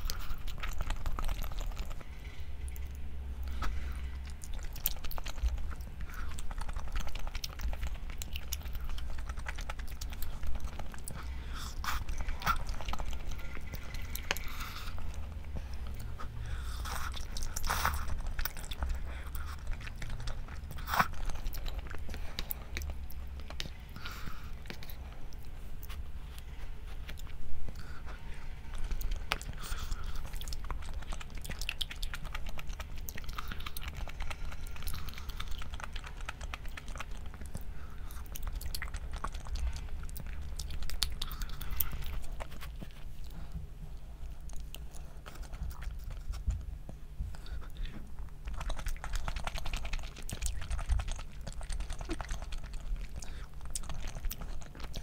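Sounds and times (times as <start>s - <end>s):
low steady hum: 0.0s - 55.0s
person chewing and biting food: 0.0s - 55.0s.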